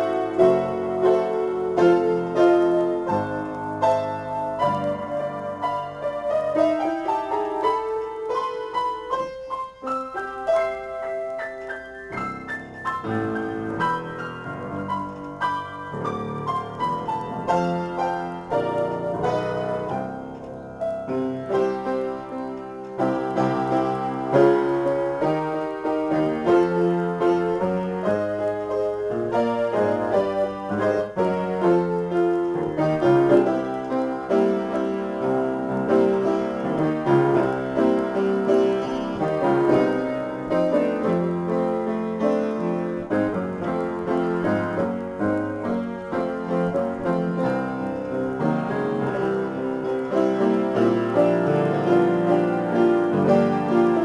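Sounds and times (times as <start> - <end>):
solo piano improvisation: 0.0 - 54.0.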